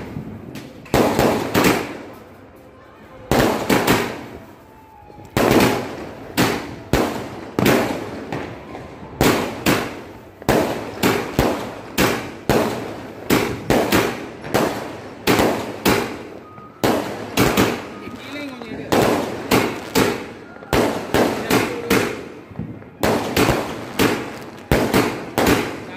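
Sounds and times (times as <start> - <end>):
fireworks bangs: 0.0 - 2.3, 3.3 - 4.6, 5.2 - 25.9.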